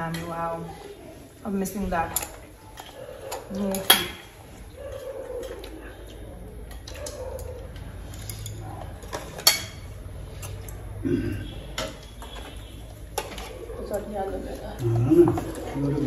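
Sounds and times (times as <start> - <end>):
utensils clinking against bowls: 0.0 - 1.0, 1.6 - 16.0.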